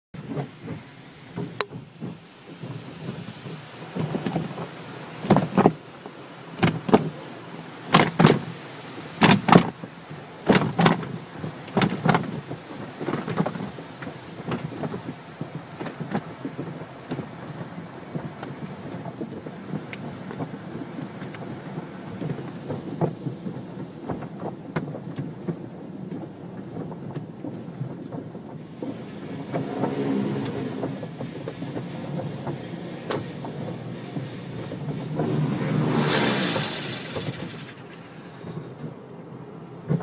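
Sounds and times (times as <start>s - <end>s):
water spraying on car: 0.2s - 40.0s.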